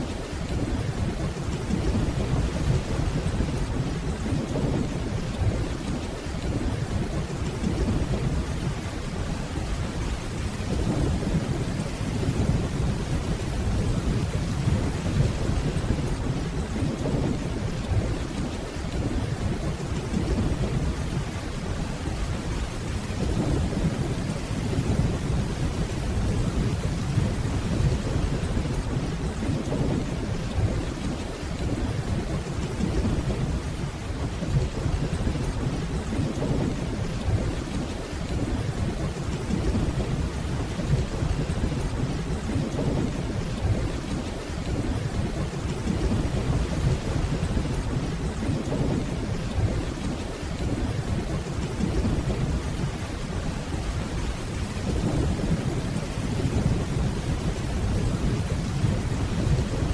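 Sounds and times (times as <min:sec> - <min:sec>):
steady rainfall: 0:00.0 - 0:59.9
distant thunder rumbling: 0:00.2 - 0:59.9.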